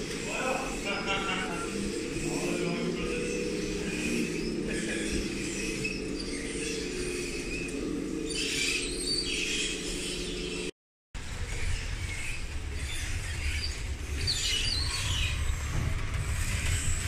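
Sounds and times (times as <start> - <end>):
tracks squeaking and scraping: 0.0 - 17.0.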